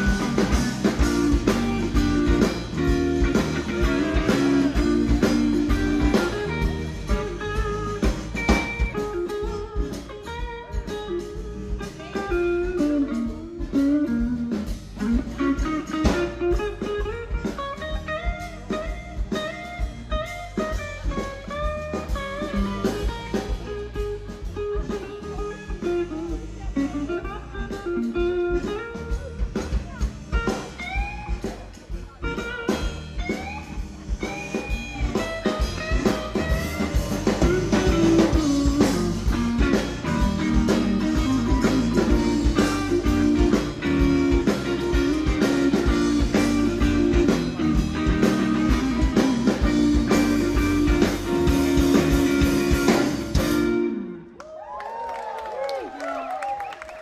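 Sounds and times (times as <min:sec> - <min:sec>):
lead guitar with bent notes: 0:00.0 - 0:54.4
blues zydeco band playing: 0:00.0 - 0:57.0.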